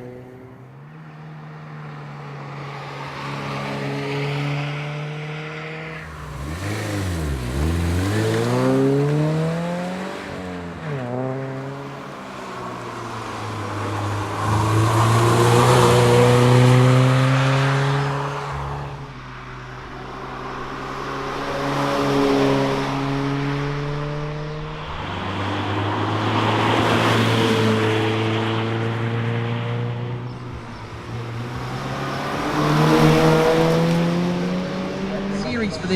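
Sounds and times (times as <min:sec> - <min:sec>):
car engine revving: 0:03.9 - 0:12.2, 0:12.9 - 0:35.9.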